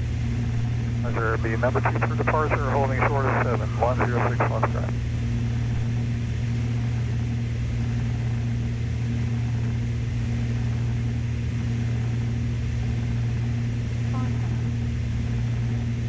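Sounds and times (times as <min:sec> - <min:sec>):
aircraft engines droning in cockpit: 0:00.0 - 0:16.0.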